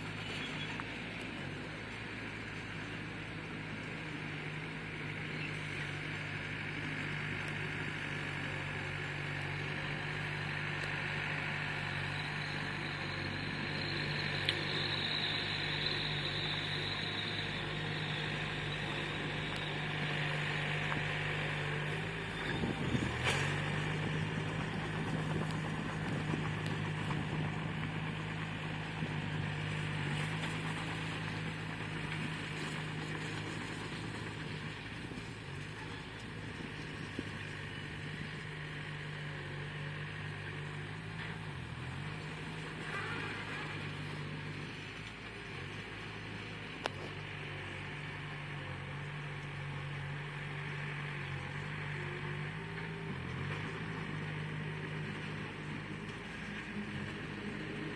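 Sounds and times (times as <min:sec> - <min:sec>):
bulldozer engine under load: 0:00.0 - 0:57.9.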